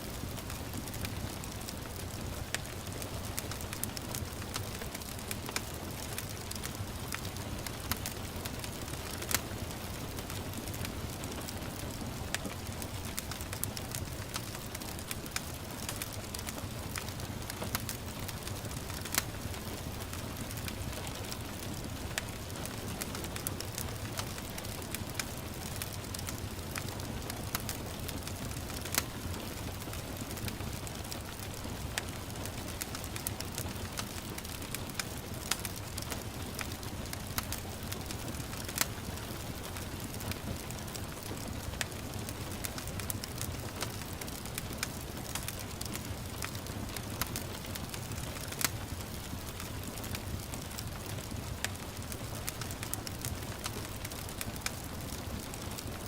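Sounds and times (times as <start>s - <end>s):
gentle rain hiss: 0.0s - 56.0s
wood fire crackling: 0.0s - 56.0s.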